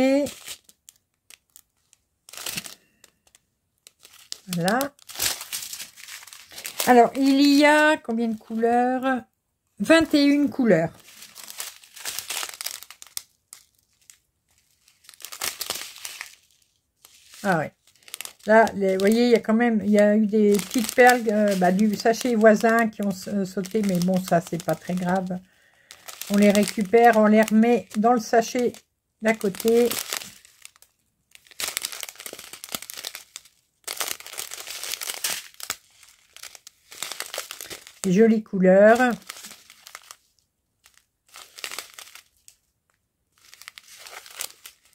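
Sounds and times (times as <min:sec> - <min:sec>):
plastic bags crinkling: 0:00.0 - 0:08.7, 0:09.9 - 0:44.9.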